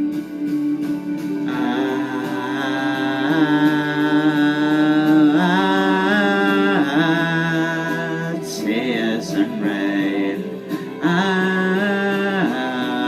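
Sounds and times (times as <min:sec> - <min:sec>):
person singing long wordless notes: 0:01.4 - 0:13.0.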